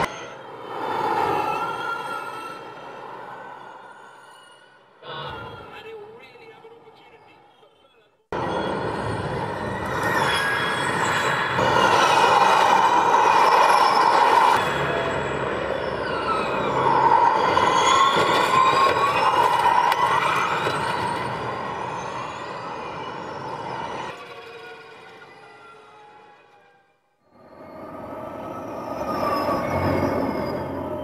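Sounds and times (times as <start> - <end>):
electric race cars whining past: 0.0 - 5.0, 8.4 - 31.0.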